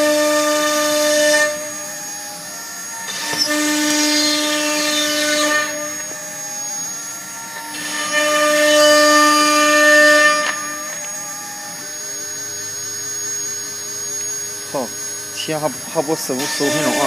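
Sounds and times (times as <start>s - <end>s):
bit cutting wood: 0.0s - 17.0s
router spindle whining: 0.0s - 17.0s.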